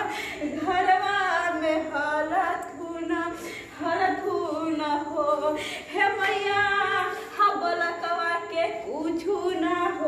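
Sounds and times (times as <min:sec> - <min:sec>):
women singing unaccompanied: 0:00.0 - 0:10.0.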